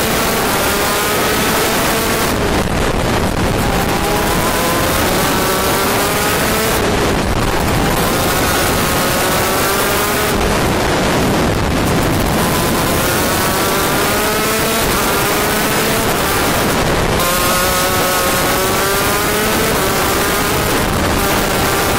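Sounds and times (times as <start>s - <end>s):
kart engine revving: 0.0s - 21.9s.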